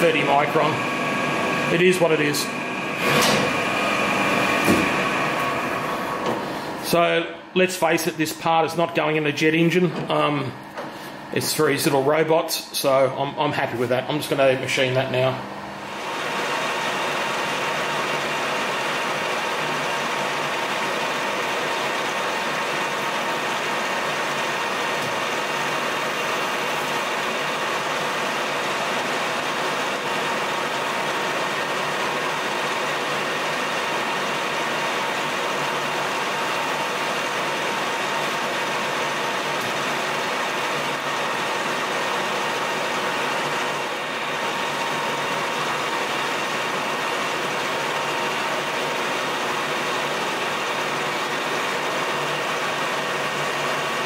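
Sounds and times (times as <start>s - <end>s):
lathe running at high speed: 0.0s - 7.2s, 14.4s - 54.0s.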